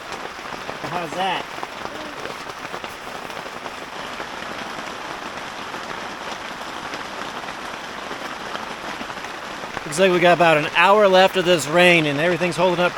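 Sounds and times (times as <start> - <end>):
heavy rain on a tarp: 0.0 - 12.9.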